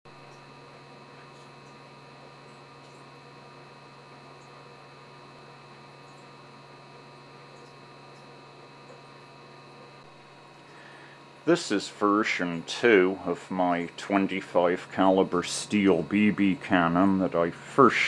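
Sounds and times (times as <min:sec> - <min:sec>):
low electrical hum: 0:00.1 - 0:18.0.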